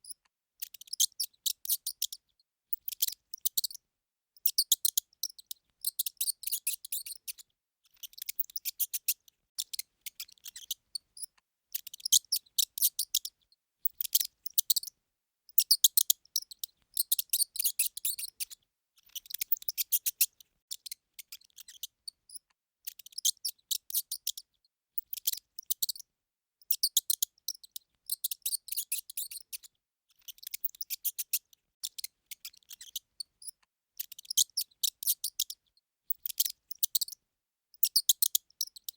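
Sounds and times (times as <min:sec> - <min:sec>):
mouse squeaking: 0:00.0 - 0:03.8, 0:04.4 - 0:14.9, 0:15.5 - 0:24.4, 0:25.0 - 0:26.0, 0:26.7 - 0:37.2, 0:37.8 - 0:38.9.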